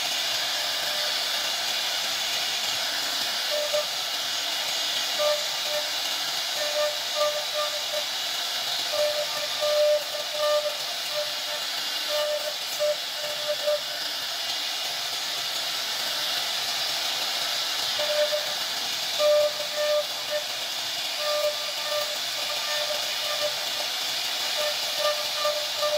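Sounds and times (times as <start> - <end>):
router spindle cutting wood: 0.0 - 1.9, 2.6 - 16.5, 17.8 - 25.9.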